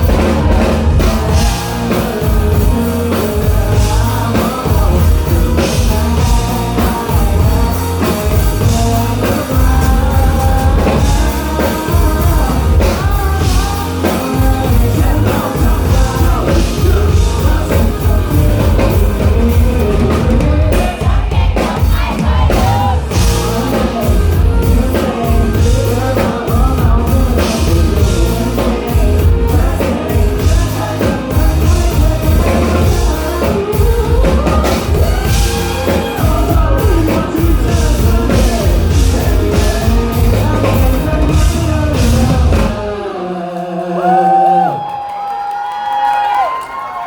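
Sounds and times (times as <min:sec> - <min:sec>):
live rock band playing: 0:00.0 - 0:44.7
person singing: 0:00.0 - 0:45.4.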